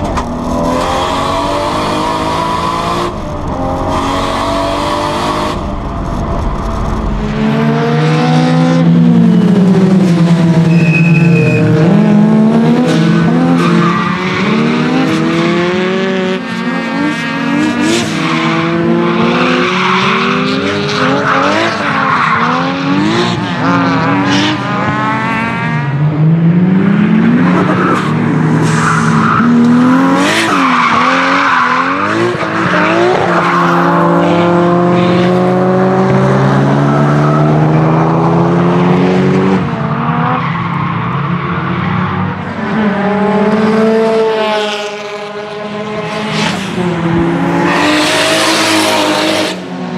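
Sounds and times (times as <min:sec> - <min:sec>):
car engine revving: 0:00.0 - 0:40.6.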